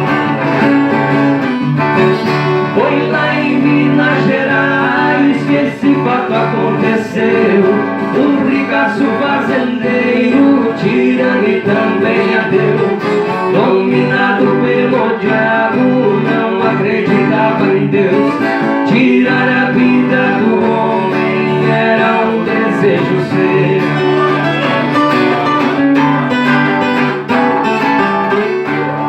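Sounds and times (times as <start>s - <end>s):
acoustic guitars plucking a tune: 0.0s - 29.0s.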